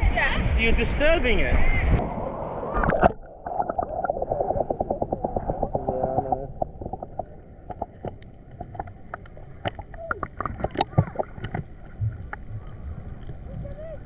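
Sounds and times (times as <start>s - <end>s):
water splashing and sloshing: 1.8s - 14.0s.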